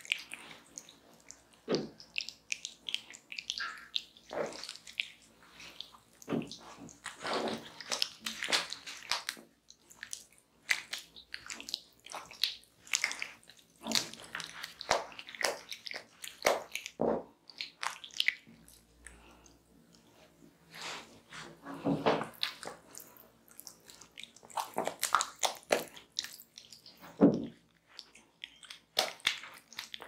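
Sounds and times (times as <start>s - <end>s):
hands rubbing wet skin: 0.0s - 21.6s, 22.2s - 30.0s.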